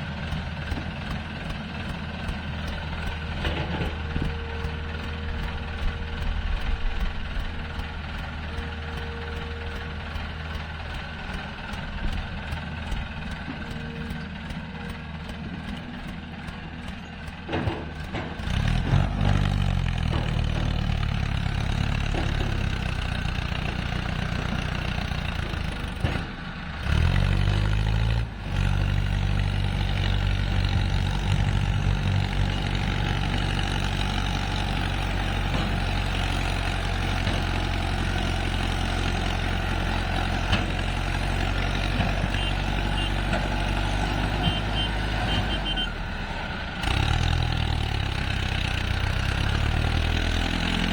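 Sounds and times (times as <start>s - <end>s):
excavator diesel engine revving: 0.0s - 50.9s.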